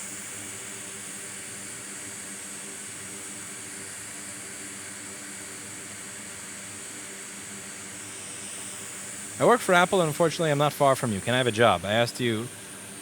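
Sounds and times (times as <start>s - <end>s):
fan hiss: 0.1s - 13.0s.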